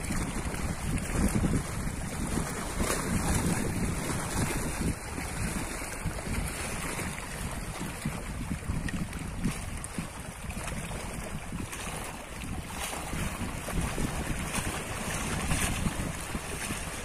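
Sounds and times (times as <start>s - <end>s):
waves lapping against stone: 0.0s - 17.0s
wind buffeting microphone: 0.0s - 17.0s.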